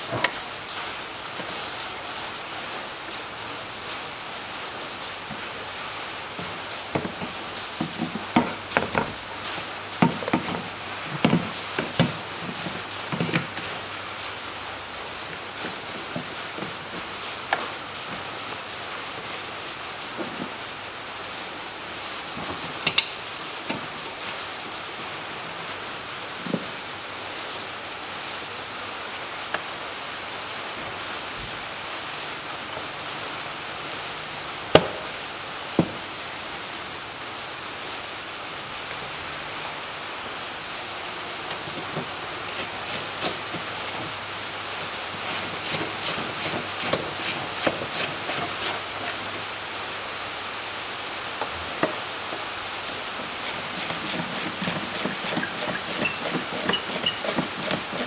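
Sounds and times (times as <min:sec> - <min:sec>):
rain on roof: 0:00.0 - 0:58.0.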